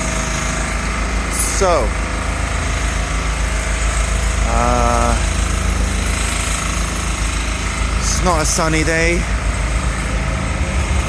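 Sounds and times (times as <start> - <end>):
rapid mechanical rattle: 0.0 - 11.0
street noise rumble: 0.0 - 11.0.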